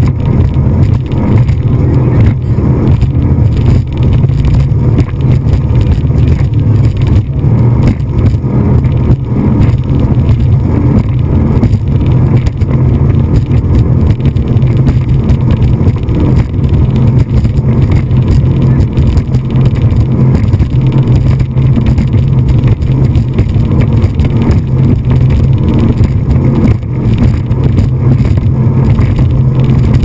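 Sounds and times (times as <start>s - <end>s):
speedboat engine rumble: 0.0s - 30.0s.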